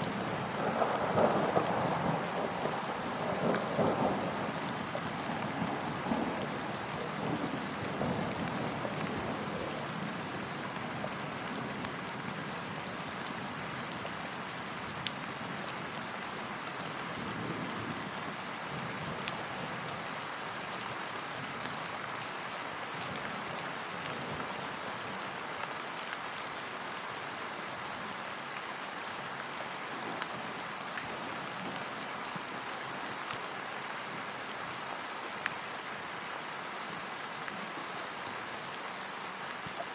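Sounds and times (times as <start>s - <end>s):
rain falling on a lake: 0.0s - 39.9s.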